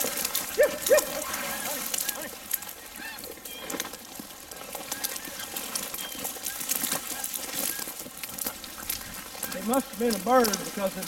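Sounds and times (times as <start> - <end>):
dry grass rustling: 0.0 - 11.0.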